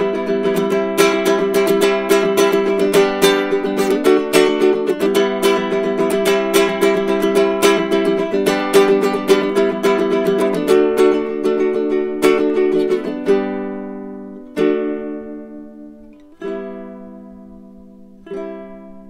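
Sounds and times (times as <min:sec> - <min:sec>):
ukulele plucked notes: 0:00.0 - 0:19.0.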